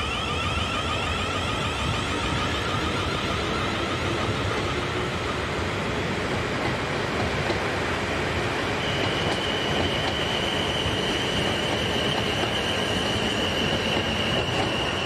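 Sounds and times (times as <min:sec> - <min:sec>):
high-pitched squeal: 0:00.0 - 0:05.8, 0:08.6 - 0:15.0
train rushing on rails: 0:00.0 - 0:15.0.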